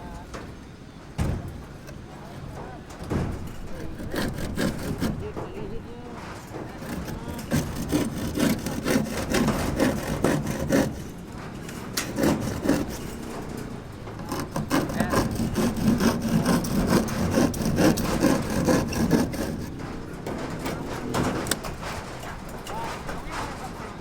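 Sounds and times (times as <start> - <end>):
hand saw cutting wood: 3.0 - 24.0.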